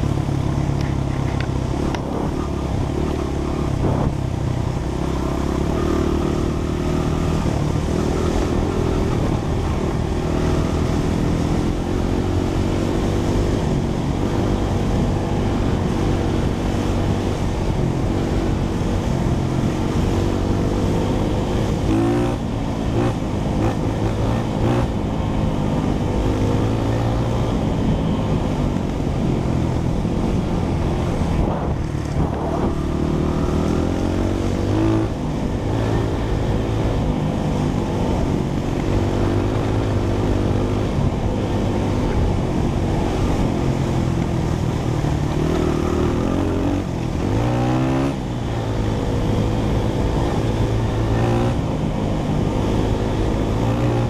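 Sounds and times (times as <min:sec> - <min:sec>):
wind noise on microphone: 0:00.0 - 0:05.8, 0:06.4 - 0:54.0.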